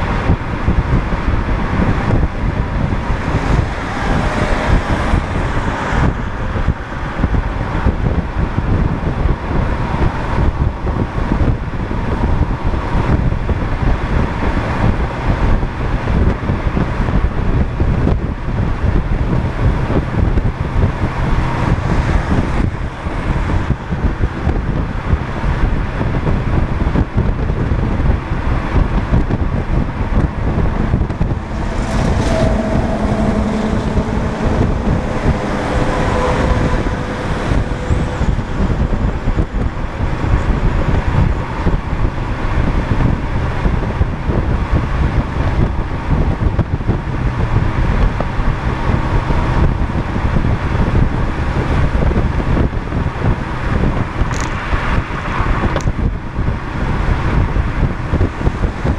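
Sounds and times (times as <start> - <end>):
car road noise at highway speed: 0.0 - 58.9
oncoming traffic passing: 0.0 - 58.9
wind on microphone: 0.0 - 58.9.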